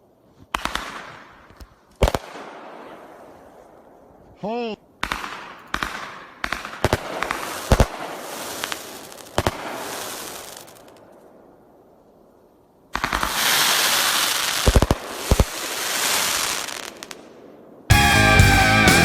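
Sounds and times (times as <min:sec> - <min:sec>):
fireworks bursts with crackling: 0:00.5 - 0:03.6, 0:05.0 - 0:11.1, 0:12.9 - 0:19.0.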